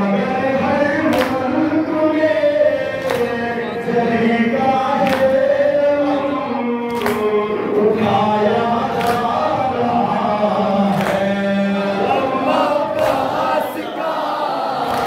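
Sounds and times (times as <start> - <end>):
man chanting a lament into microphone: 0.0 - 14.0.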